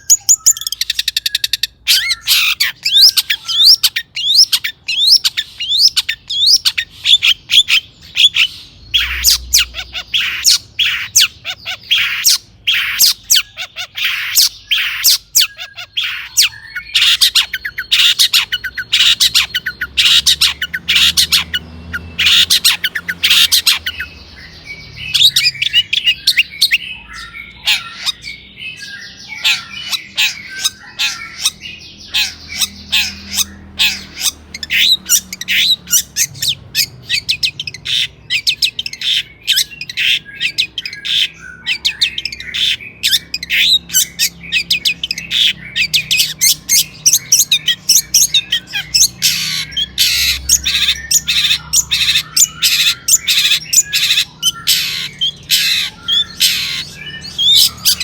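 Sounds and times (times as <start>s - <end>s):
bird singing harsh chattering notes: 0.0s - 58.0s.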